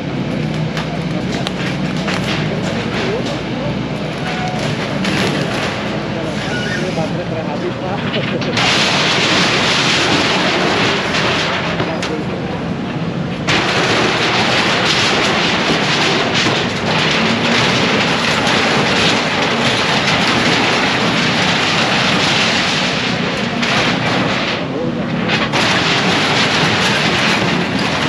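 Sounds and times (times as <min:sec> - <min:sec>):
building demolition clatter and banging: 0:00.0 - 0:28.0.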